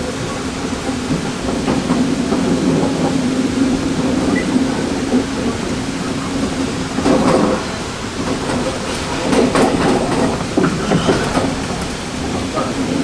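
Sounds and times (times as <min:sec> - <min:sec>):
train interior low hum: 0:00.0 - 0:13.0
wheels clacking over rail joints: 0:00.0 - 0:13.0.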